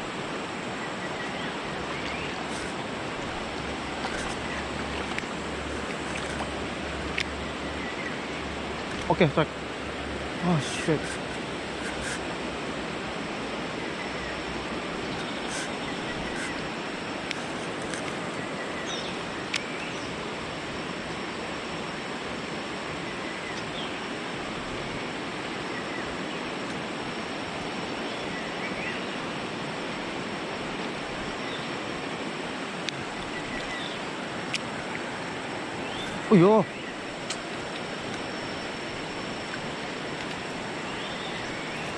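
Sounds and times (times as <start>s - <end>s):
stream water running over rocks: 0.0s - 41.9s.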